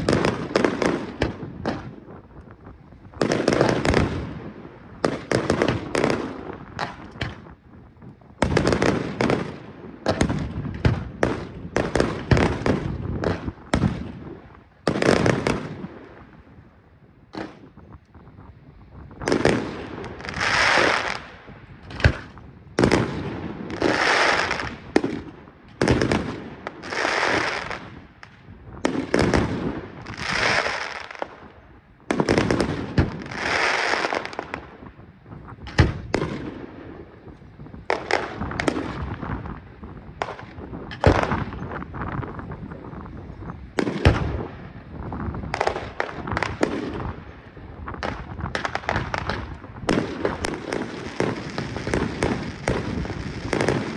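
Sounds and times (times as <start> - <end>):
fireworks bangs with hiss: 0.0 - 53.9.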